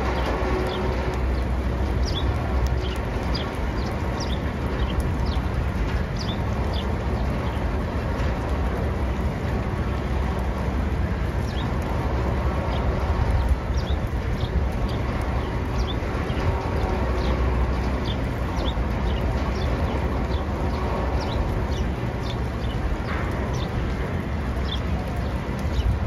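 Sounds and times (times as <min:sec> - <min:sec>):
small birds chirping: 0:00.0 - 0:07.7, 0:12.6 - 0:26.0
steady low rumble: 0:00.0 - 0:26.0.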